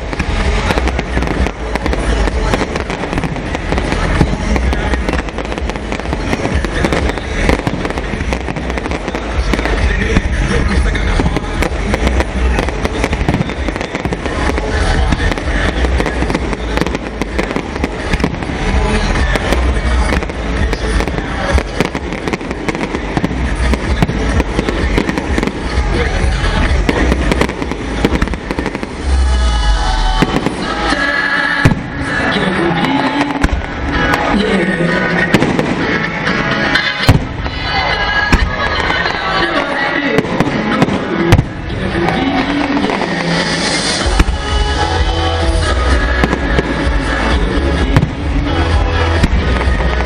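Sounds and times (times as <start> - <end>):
fireworks bangs and crackling: 0.0 - 50.0
music playing: 0.0 - 50.0.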